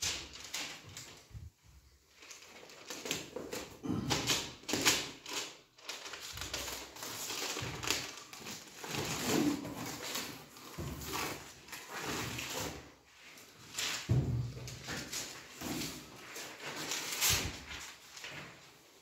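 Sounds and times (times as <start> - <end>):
foil insulation crinkling and scraping: 2.1 - 18.7.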